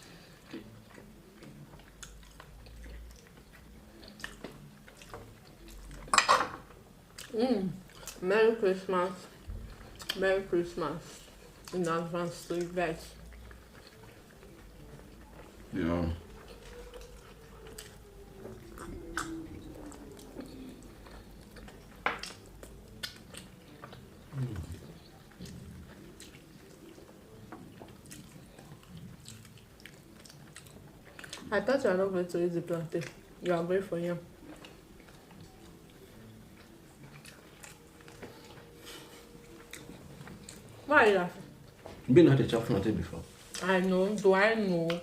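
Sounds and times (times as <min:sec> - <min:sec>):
person chewing soft food: 0:00.0 - 0:06.1, 0:06.8 - 0:08.2, 0:09.3 - 0:10.2, 0:11.1 - 0:31.5, 0:34.3 - 0:42.1.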